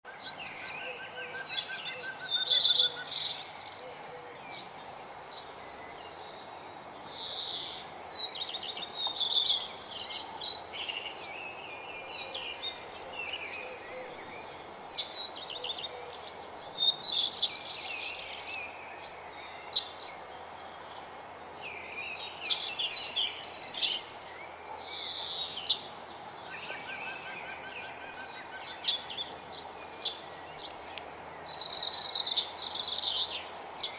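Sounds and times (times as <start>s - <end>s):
songbirds singing: 0.1s - 33.9s
steady background hiss: 0.1s - 33.9s.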